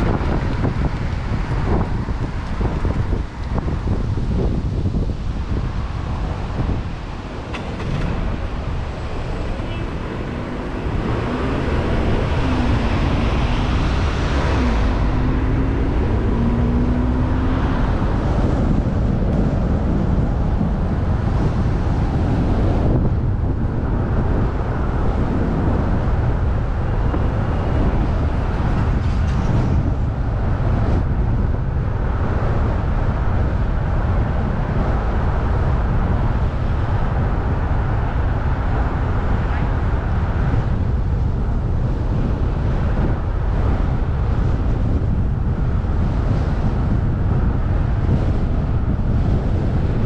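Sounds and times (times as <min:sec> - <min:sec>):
car engine and tyre rumble: 0:00.0 - 0:50.0.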